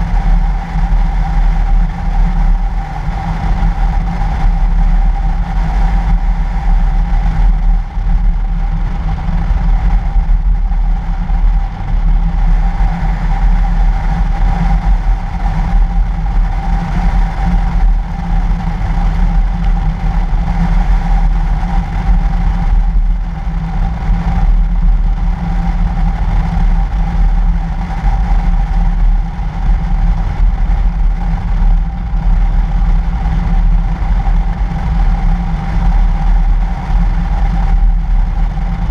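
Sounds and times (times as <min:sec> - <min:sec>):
constant hum: 0:00.0 - 0:38.9
wind and road noise rumble: 0:00.0 - 0:38.9.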